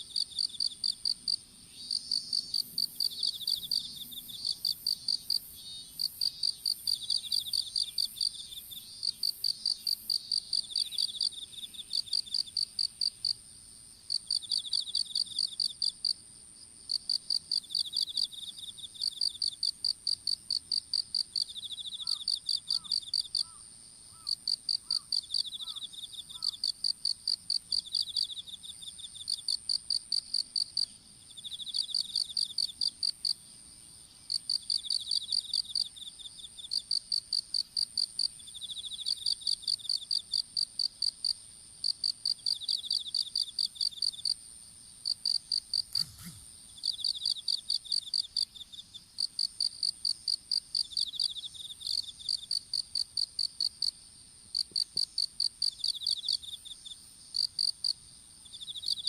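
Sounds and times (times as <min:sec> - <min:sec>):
rapid high insect chirps: 0:00.0 - 0:16.2, 0:16.9 - 0:59.0
lower pulsed insect chirp: 0:00.0 - 0:59.0
steady high-pitched insect trill: 0:00.0 - 0:59.0.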